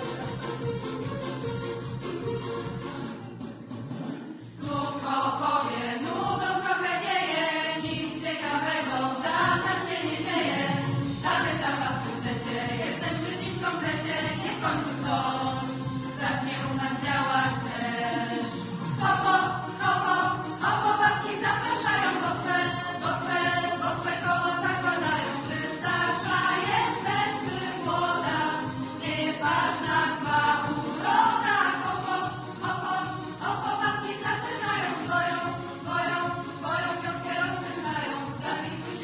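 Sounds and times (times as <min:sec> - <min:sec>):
choir singing with instruments: 0:02.6 - 0:39.0.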